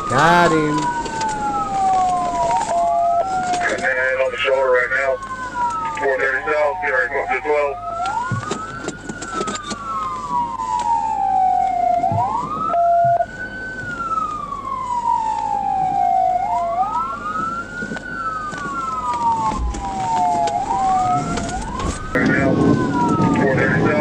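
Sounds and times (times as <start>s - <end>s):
police siren wailing: 0.0s - 24.0s.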